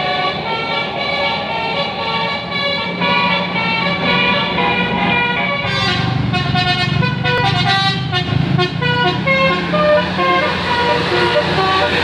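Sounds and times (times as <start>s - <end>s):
bus low hum: 0.0s - 12.0s
musical air horn tune: 2.0s - 12.0s.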